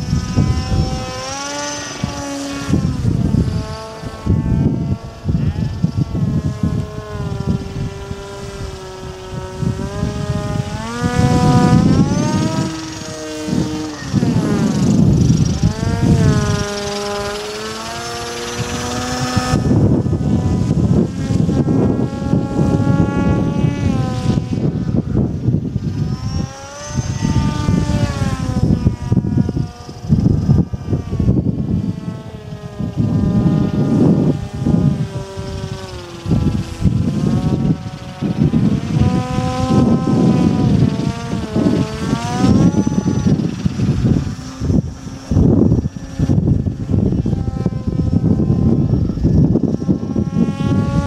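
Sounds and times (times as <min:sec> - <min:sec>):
model aircraft propeller droning: 0:00.0 - 0:51.0.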